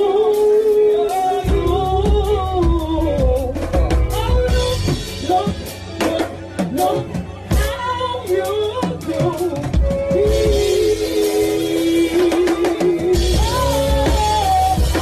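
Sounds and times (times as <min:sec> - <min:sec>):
drums: 0:00.0 - 0:15.0
lead singer singing: 0:00.0 - 0:15.0
deep bass: 0:01.4 - 0:15.0.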